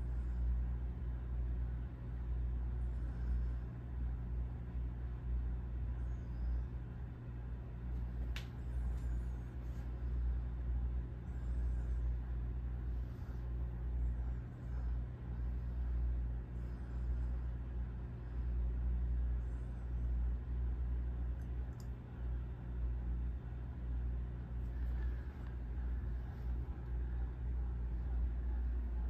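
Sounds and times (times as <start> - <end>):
faint hum: 0.0 - 29.0
low rumble: 0.0 - 29.0.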